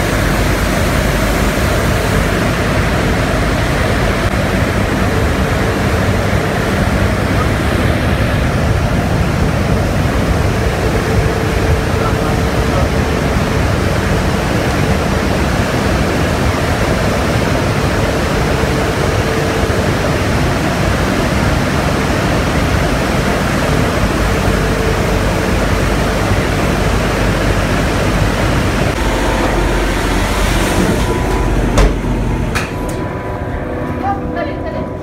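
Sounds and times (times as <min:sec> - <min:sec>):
higher steady tone: 0:00.0 - 0:35.0
low hum: 0:00.0 - 0:35.0
mill machinery noise: 0:00.0 - 0:35.0
steady tone: 0:00.0 - 0:35.0.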